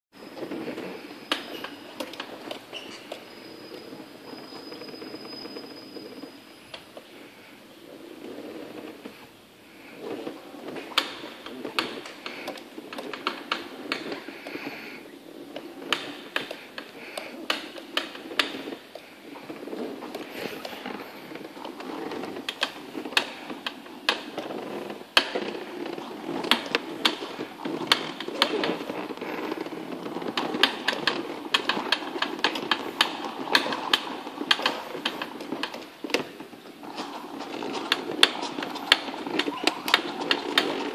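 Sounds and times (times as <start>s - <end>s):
clicking from scooter rear wheel: 0.4s - 3.8s, 9.9s - 14.7s, 15.5s - 40.9s.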